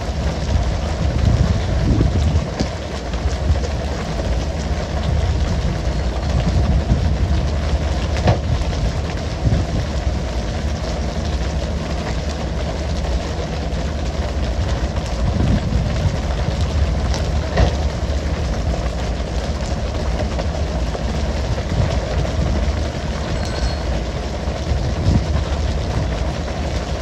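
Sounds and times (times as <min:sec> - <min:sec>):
boat engine running: 0:00.0 - 0:27.0
water spray and sea: 0:00.0 - 0:27.0.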